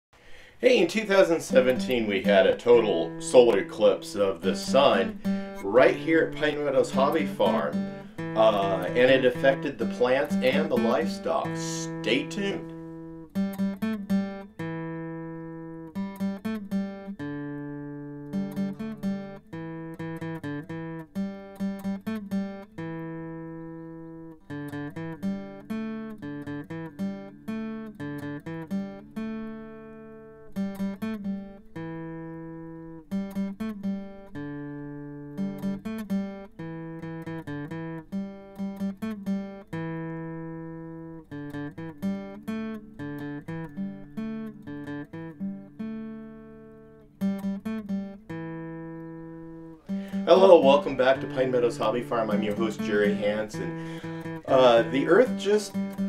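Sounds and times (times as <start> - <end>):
acoustic guitar picking and strumming: 0.2 - 56.0.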